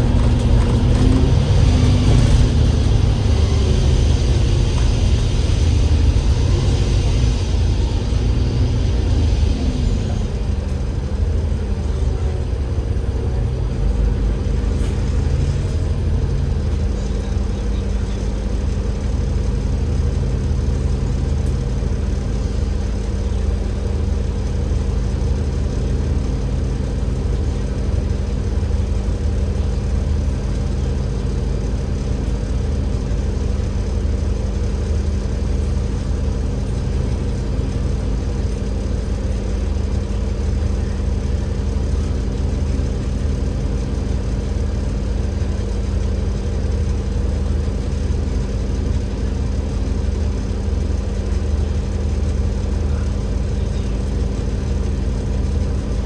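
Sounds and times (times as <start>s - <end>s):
bus diesel engine humming: 0.0s - 56.0s.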